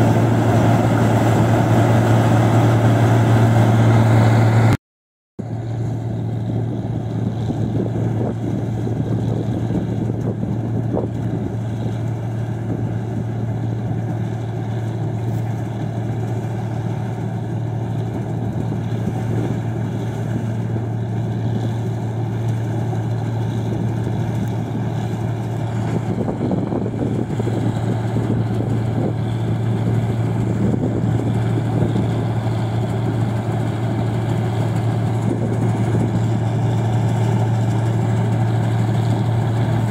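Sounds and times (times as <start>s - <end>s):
combine harvester engine hum: 0.0s - 4.8s, 5.4s - 39.9s.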